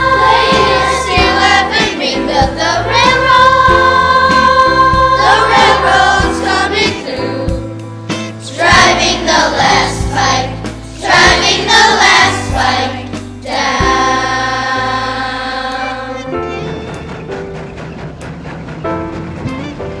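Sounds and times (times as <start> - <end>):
children singing together: 0.0 - 7.8, 8.4 - 17.0
backing music: 0.0 - 20.0.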